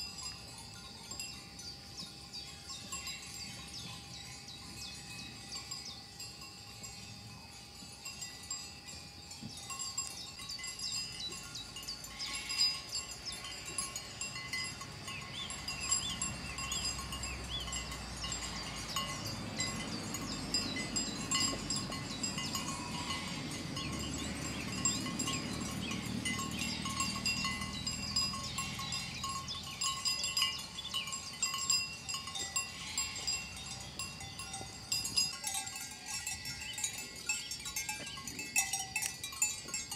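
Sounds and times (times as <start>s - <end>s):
animal bells jingling: 0.0s - 39.9s.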